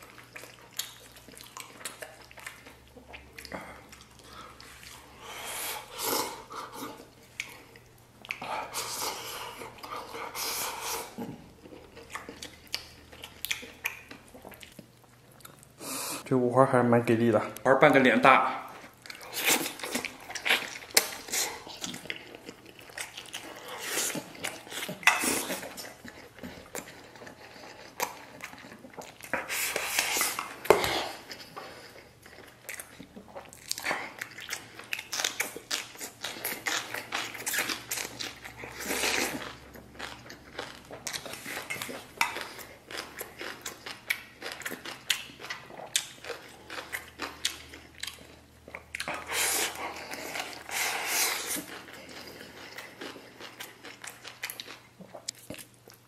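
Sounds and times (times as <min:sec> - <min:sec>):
person chewing food: 0:00.0 - 0:16.2, 0:18.6 - 0:56.0.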